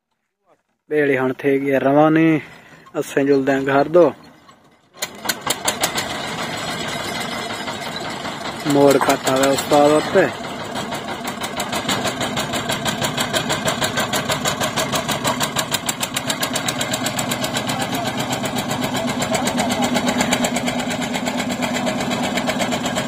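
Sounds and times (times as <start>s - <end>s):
boat engine chugging: 2.0s - 23.0s.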